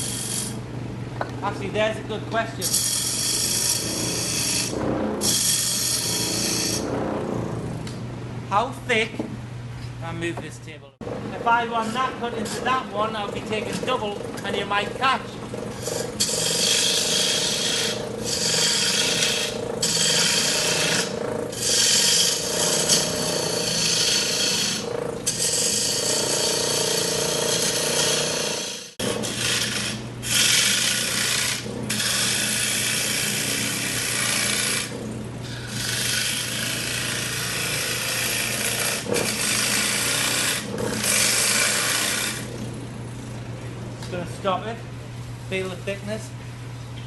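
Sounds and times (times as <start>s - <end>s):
wood lathe humming: 0.0s - 1.3s, 2.6s - 7.1s, 11.0s - 46.0s
tool cutting spinning wood: 0.0s - 8.1s, 11.0s - 44.7s.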